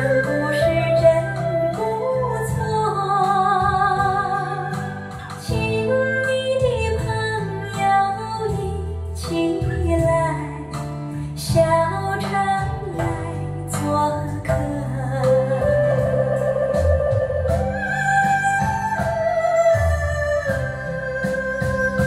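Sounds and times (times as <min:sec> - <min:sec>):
bass accompaniment: 0:00.0 - 0:22.0
woman singing with vibrato: 0:00.0 - 0:22.0.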